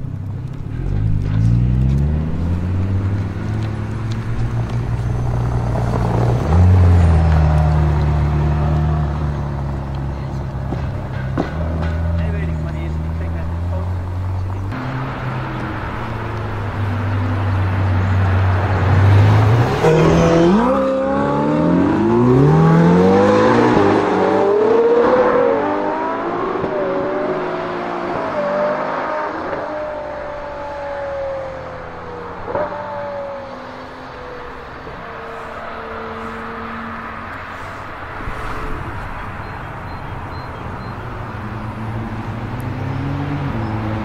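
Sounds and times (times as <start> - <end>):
sports car engine accelerating: 0.2 - 10.8, 11.6 - 44.0.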